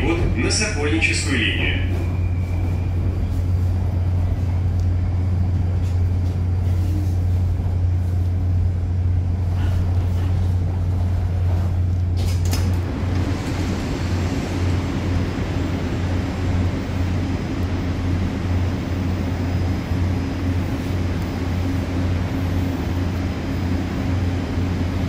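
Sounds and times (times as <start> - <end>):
metro train running hum: 0.0 - 25.0.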